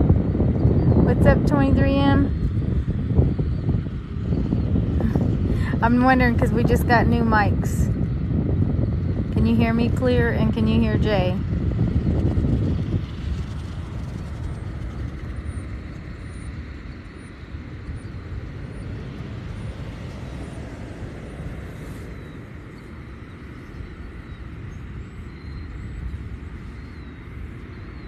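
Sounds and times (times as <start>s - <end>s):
low rumbling outdoor noise: 0.0s - 28.0s.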